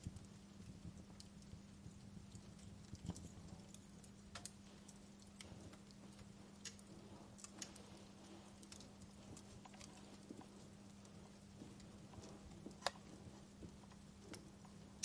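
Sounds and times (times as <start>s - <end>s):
faint steady hiss: 0.0s - 15.0s
wood fire crackling: 0.0s - 15.0s.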